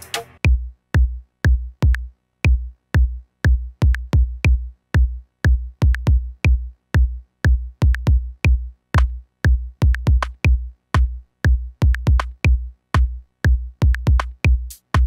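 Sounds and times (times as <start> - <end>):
electronic kick drum beat: 0.0 - 15.0.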